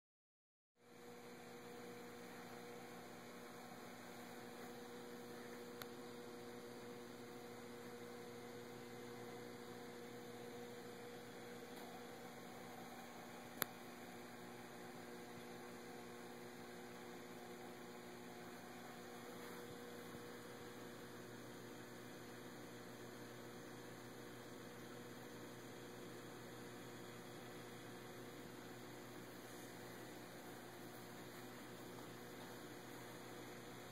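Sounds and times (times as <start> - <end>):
electrical pump hum: 0.8 - 33.9.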